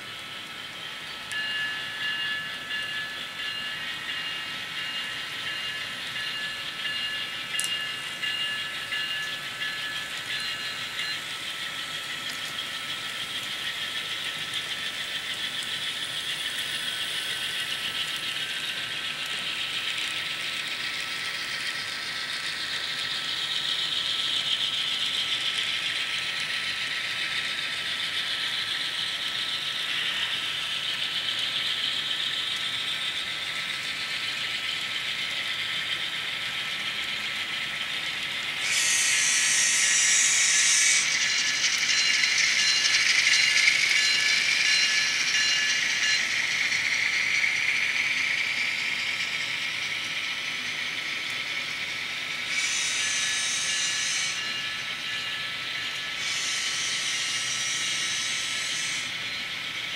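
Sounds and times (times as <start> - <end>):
model locomotive passing: 0.0 - 59.9
model trains rattling on rails: 0.0 - 59.9.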